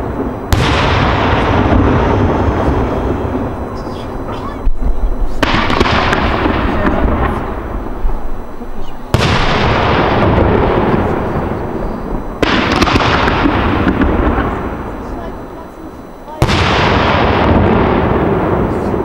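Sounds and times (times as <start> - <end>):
firework shells bursting: 0.0 - 19.0
rolling echo: 0.0 - 19.0.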